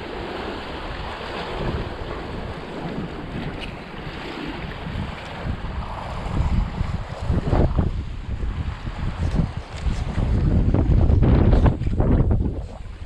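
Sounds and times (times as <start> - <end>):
gusty wind buffeting microphone: 0.0 - 13.0
waves breaking on rocks: 0.0 - 13.0.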